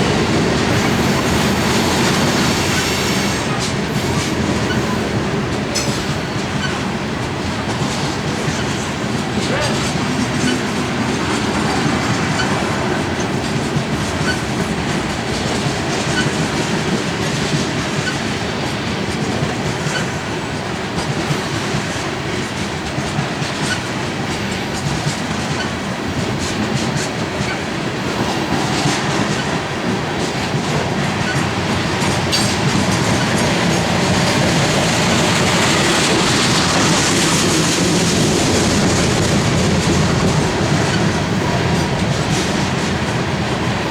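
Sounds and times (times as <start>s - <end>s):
train cars rolling past: 0.0s - 43.9s
wheels clicking over rail joints: 0.0s - 43.9s.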